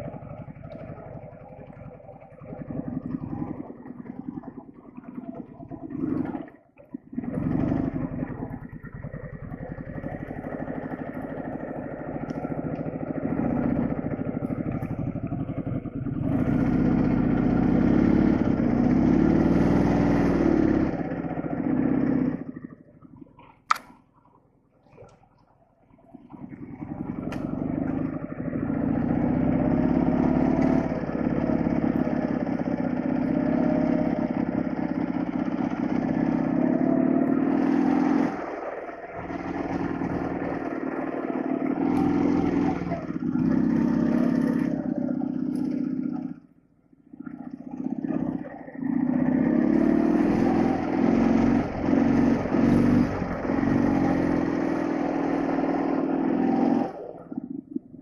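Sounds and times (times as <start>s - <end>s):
motorcycle engine running: 0.0s - 24.2s, 26.0s - 58.0s.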